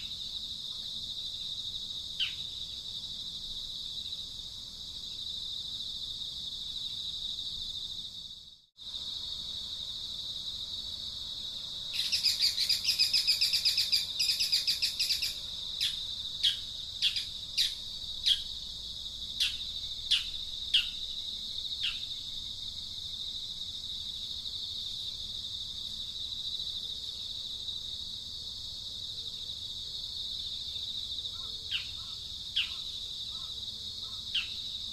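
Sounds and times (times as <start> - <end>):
high insect drone: 0.0 - 34.9.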